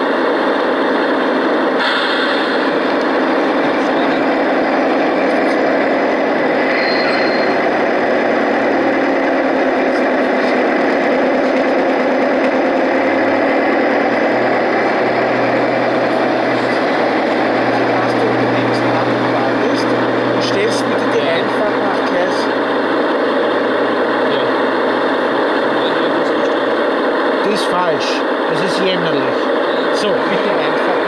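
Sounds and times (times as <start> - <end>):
model locomotive motor hum: 2.6 - 31.0.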